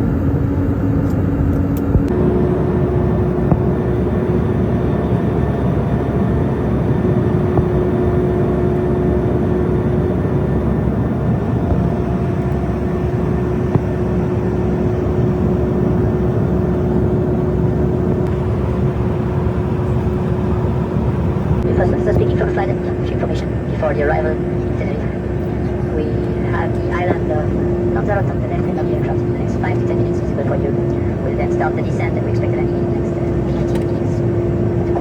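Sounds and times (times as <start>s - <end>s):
airliner cabin drone: 0.0s - 35.0s.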